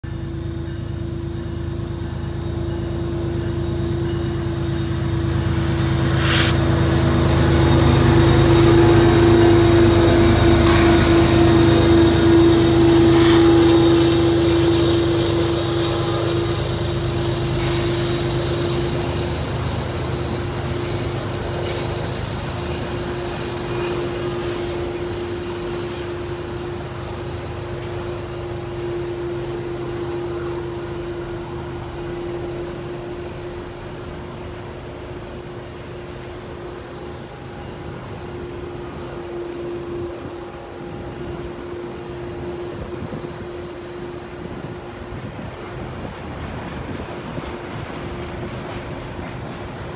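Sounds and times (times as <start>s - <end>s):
diesel locomotive engine: 0.0s - 49.9s
train cars rolling by: 0.0s - 49.9s.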